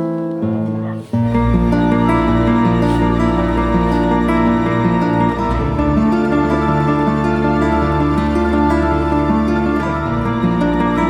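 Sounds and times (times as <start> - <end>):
sustained notes over low bass: 1.2 - 11.0.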